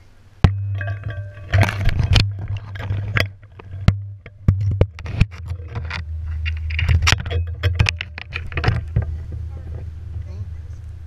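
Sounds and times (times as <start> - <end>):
rustles: 0.0 - 11.0
steady low rumble: 0.0 - 11.0.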